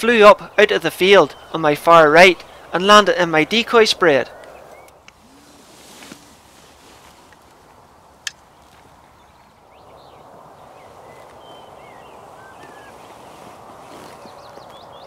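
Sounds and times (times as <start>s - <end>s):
small birds chirping: 0.0s - 5.6s, 7.3s - 15.0s.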